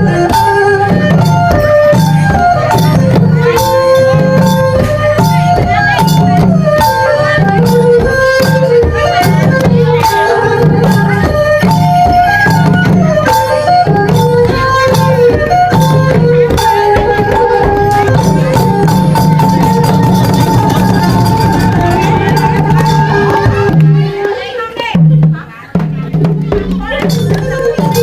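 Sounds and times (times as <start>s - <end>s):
drums beating: 0.0s - 28.0s
folk dance music: 0.0s - 28.0s
jingling percussion: 0.0s - 28.0s.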